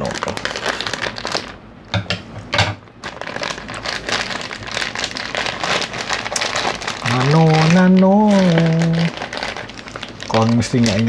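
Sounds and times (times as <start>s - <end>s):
plastic packet crinkling: 0.0s - 1.7s, 3.0s - 11.0s.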